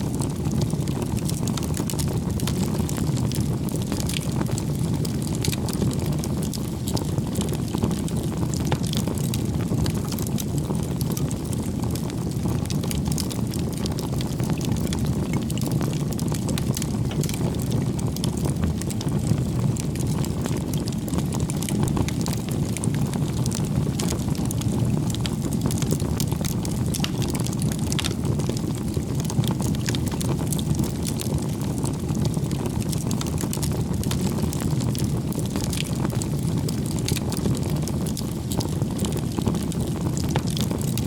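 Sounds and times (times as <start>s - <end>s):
burning wood crackling: 0.0s - 41.0s
flames rumbling: 0.0s - 41.0s.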